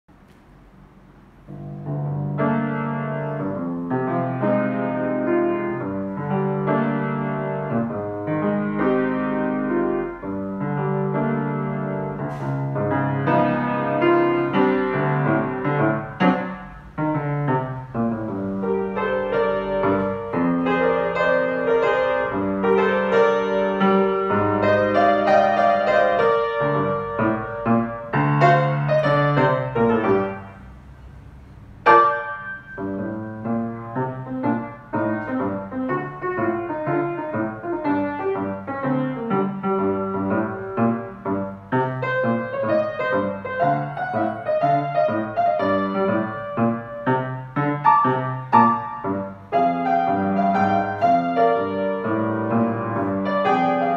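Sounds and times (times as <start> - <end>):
grand piano playing: 0.5 - 53.9.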